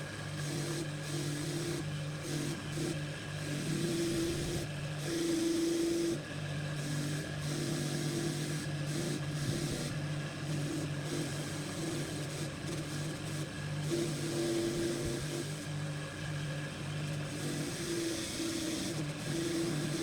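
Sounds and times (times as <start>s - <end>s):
workshop tool motor hum: 0.0s - 20.0s.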